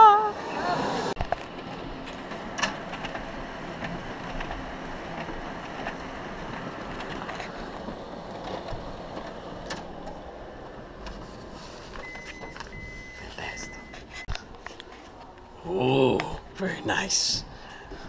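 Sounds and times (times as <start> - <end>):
copier mechanical hum: 1.2 - 18.0.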